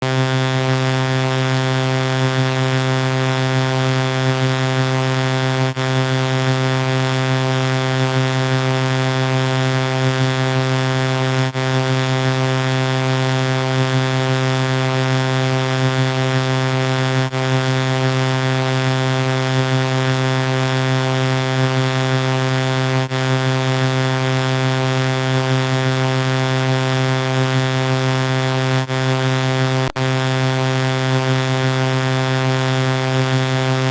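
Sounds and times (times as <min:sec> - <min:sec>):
synthetic vocoder buzzing tone: 0:00.0 - 0:33.9.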